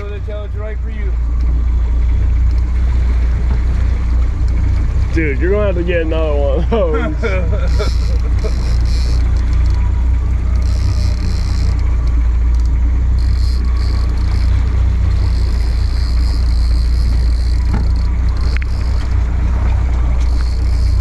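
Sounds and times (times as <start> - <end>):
boat engine droning: 0.0 - 21.0
water noise: 0.0 - 21.0
wind: 0.0 - 21.0.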